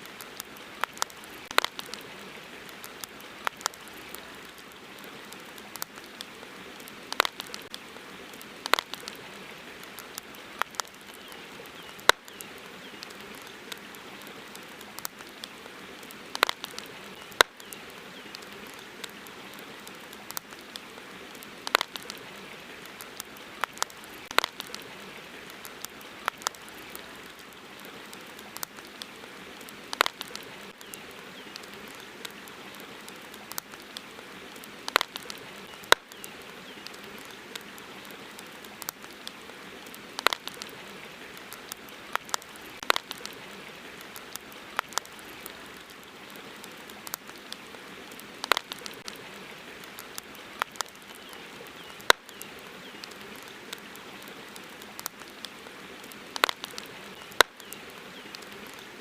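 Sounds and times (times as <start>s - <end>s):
campfire pops and snaps: 0.0s - 58.9s
campfire hiss: 0.0s - 59.0s.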